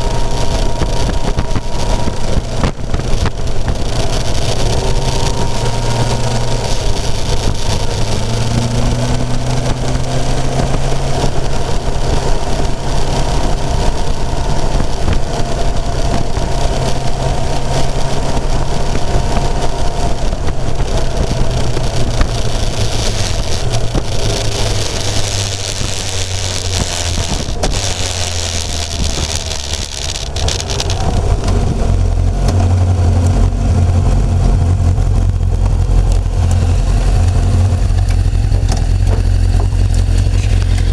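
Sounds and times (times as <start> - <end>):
motorcycle engine running: 0.0 - 40.9
wind rush over microphone: 0.0 - 40.9.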